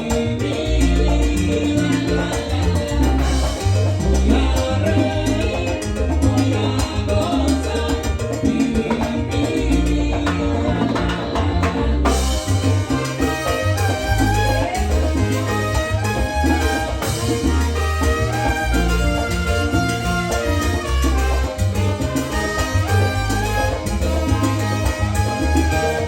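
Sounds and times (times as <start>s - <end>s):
salsa music: 0.0s - 26.0s.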